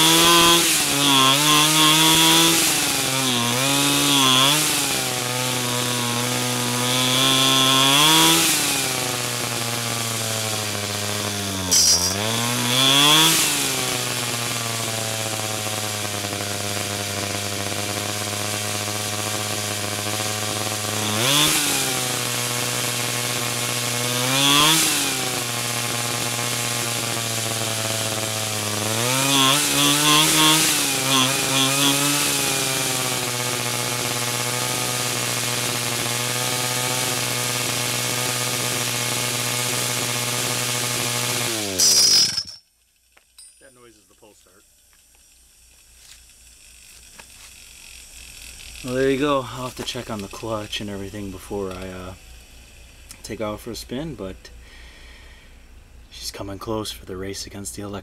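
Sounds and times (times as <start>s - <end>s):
engine revving: 0.0s - 42.5s, 46.8s - 54.6s
small two-stroke engine idling: 0.0s - 42.6s, 44.2s - 55.8s.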